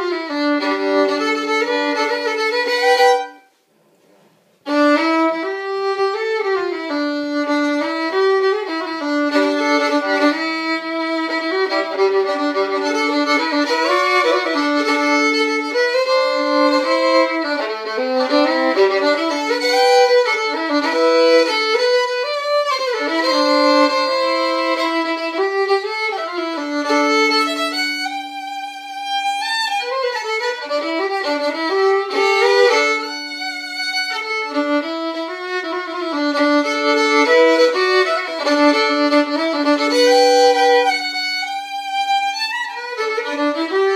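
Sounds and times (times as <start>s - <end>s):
solo fiddle melody: 0.0s - 3.6s, 4.6s - 43.9s.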